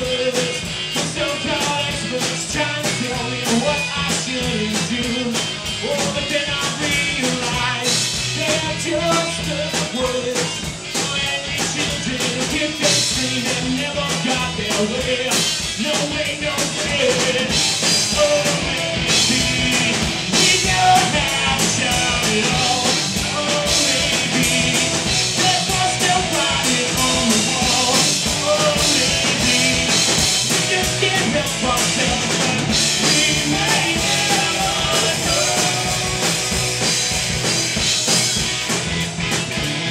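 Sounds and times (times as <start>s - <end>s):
person singing: 0.0s - 36.6s
drum kit: 0.0s - 39.9s
live rock band: 0.0s - 39.9s.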